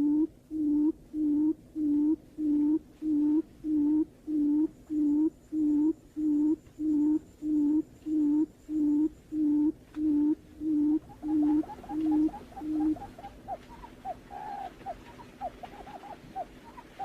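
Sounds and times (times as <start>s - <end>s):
deep hollow bird hoots: 0.0s - 17.0s.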